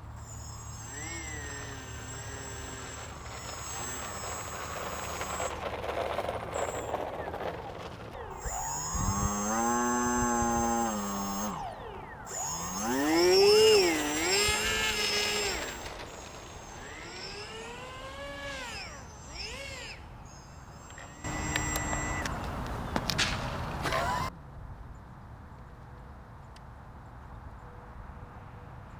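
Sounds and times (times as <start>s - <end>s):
rc plane electric motor whine: 0.0s - 24.3s.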